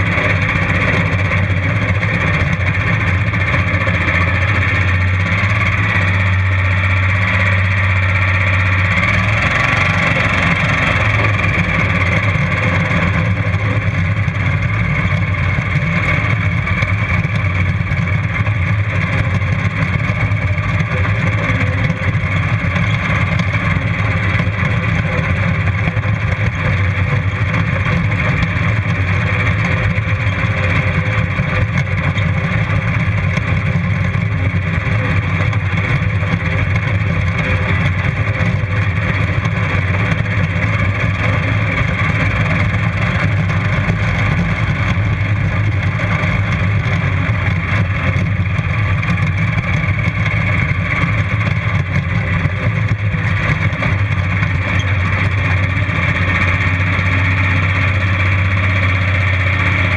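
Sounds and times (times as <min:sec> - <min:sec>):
lawnmower engine running loudly: 0:00.0 - 0:59.9.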